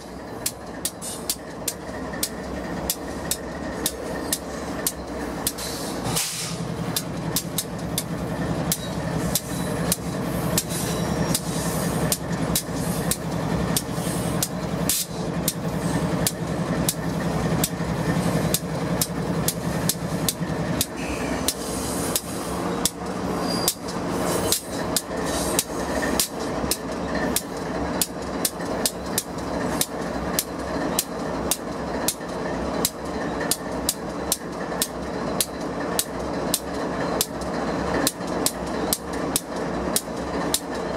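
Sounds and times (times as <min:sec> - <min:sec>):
rumble of passing train cars: 0:00.0 - 0:40.9
train wheels clicking over track: 0:00.0 - 0:40.9.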